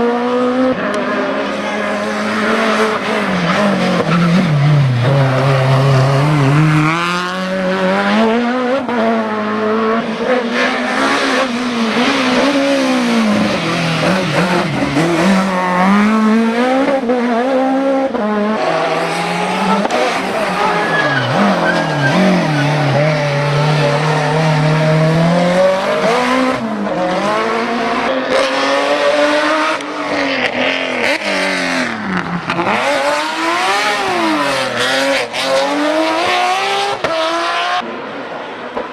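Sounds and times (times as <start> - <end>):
race car engine revving: 0.0 - 37.8.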